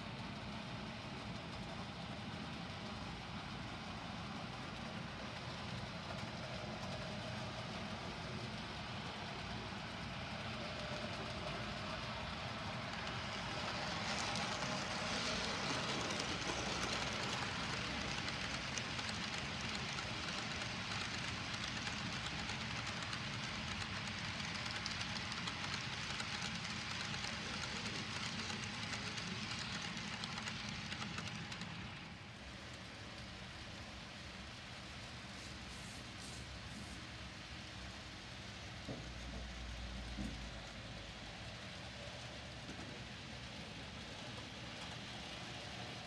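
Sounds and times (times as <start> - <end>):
model train wheels on rail: 0.0 - 46.0.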